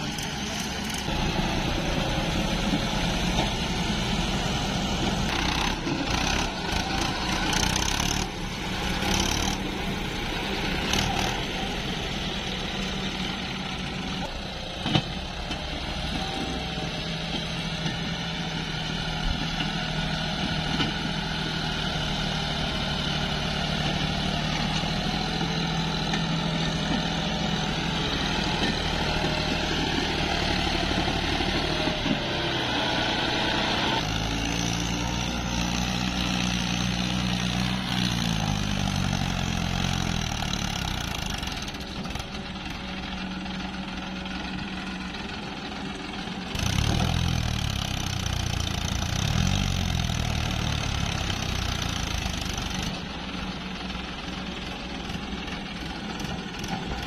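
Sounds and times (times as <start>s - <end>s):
excavator working: 0.0s - 57.0s
tractor diesel engine: 0.0s - 57.0s.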